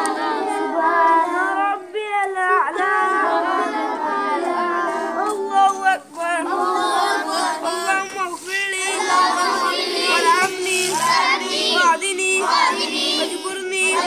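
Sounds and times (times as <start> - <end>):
boys chanting together: 0.0 - 14.0.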